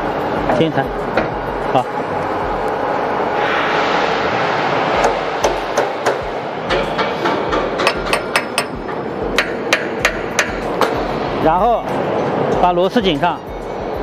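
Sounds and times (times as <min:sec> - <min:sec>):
workshop hiss: 0:00.0 - 0:14.0.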